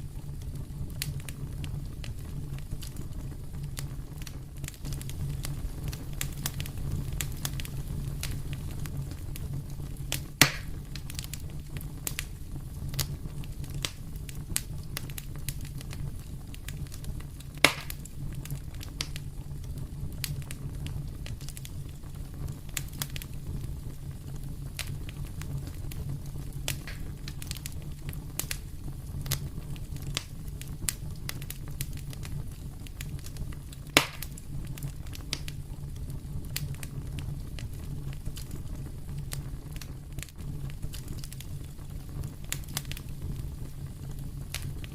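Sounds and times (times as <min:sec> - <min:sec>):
sharp fire pops: 0:00.0 - 0:44.9
wood fire crackling: 0:00.0 - 0:44.9.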